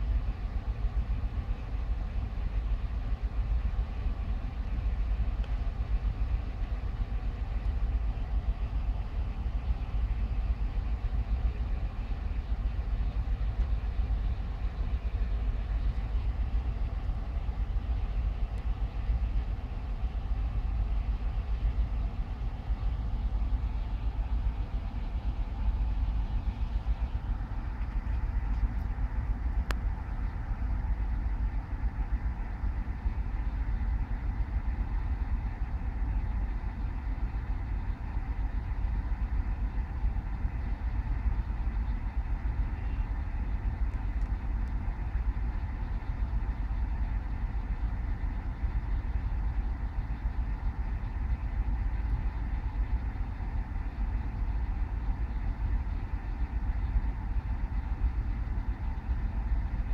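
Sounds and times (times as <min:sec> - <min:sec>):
faint constant hum: 0:00.0 - 0:59.9
low rumble: 0:00.0 - 0:59.9.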